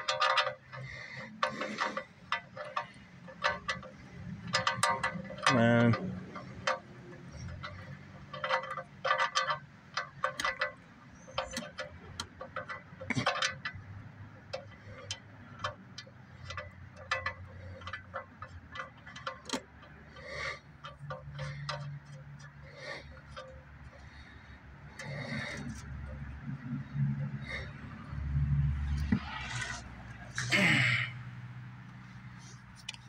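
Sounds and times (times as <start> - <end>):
wrench clinking on bolt: 0.0 - 28.2
ratchet clicks: 0.0 - 30.6.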